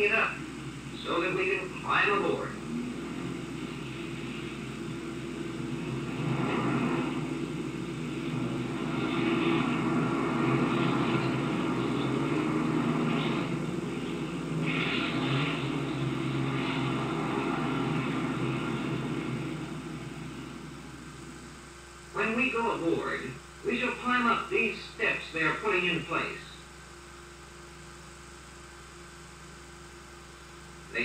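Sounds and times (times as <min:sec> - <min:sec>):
film soundtrack hiss and hum: 0:00.0 - 0:31.0
propeller plane engines rumbling: 0:00.0 - 0:31.0.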